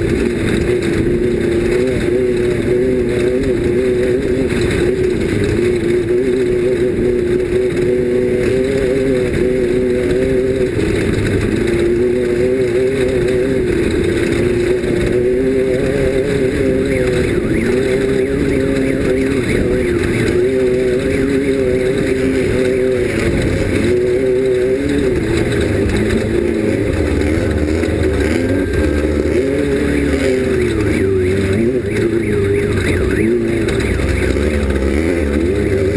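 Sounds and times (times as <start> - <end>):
race vehicle engine at high revs: 0.0 - 35.9.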